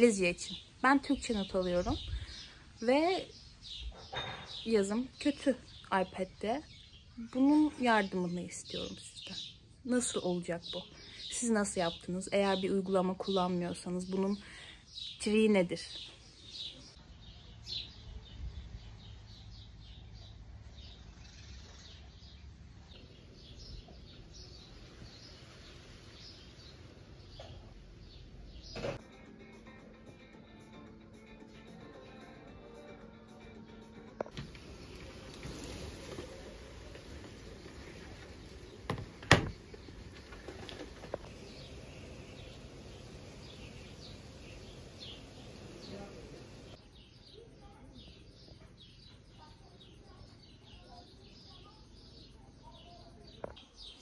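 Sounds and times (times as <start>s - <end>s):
small birds chirping: 0.0s - 29.0s, 29.6s - 54.0s.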